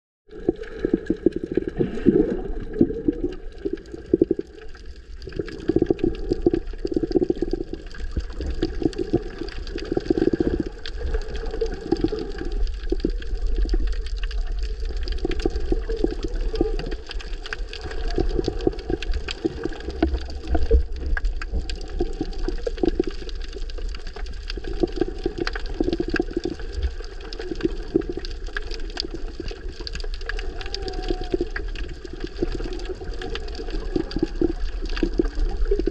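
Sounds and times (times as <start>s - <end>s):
underwater water surging and gurgling: 0.3s - 35.9s.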